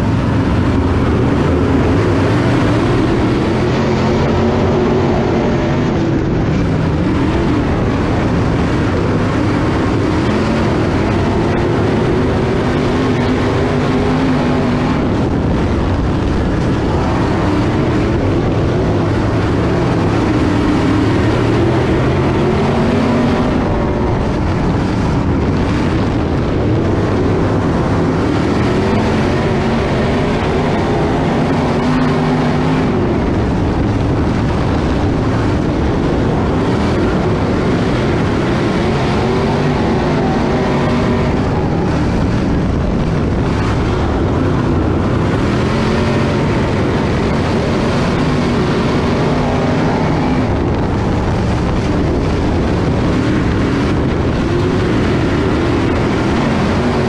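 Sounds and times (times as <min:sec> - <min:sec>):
race car engine running: 0:00.0 - 0:57.0.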